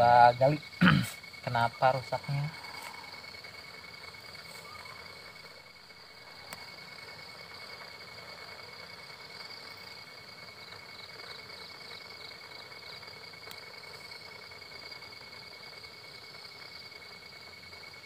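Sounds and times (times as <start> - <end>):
faint pulsing call: 0.0 - 15.8
insects trilling: 0.0 - 18.0.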